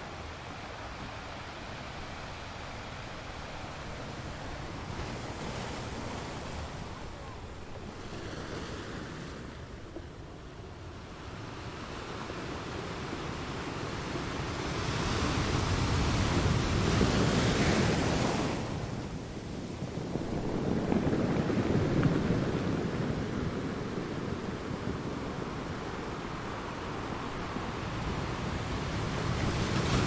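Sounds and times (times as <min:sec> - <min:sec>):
wind: 0:00.0 - 0:30.0
sea waves breaking: 0:00.8 - 0:30.0.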